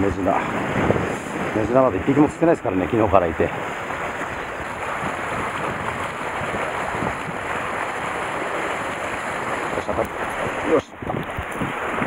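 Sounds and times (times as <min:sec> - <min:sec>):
waves washing against concrete: 0:00.0 - 0:12.0
wind buffeting microphone: 0:00.0 - 0:12.0.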